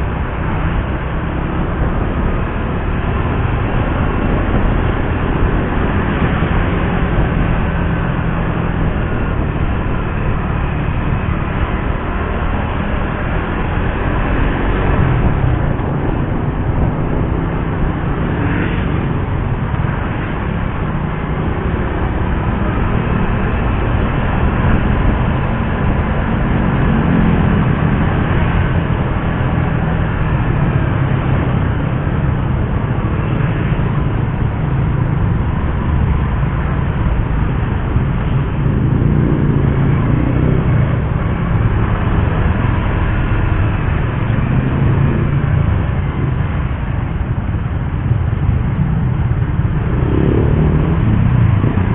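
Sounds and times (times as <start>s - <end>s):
road and wind noise: 0.0s - 51.9s.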